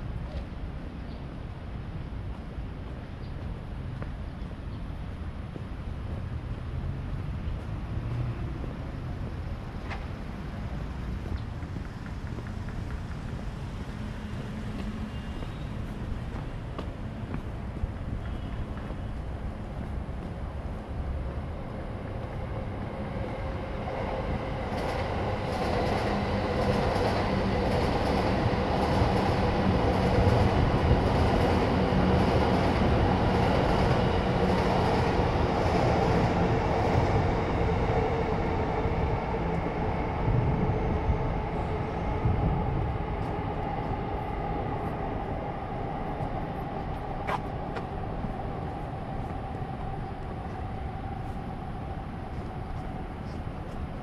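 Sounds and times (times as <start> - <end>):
electric train rumbling past: 5.5 - 54.0.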